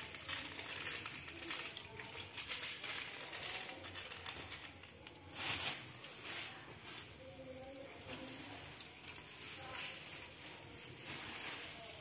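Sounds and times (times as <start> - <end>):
oil crackling in a wok: 0.0 - 12.0.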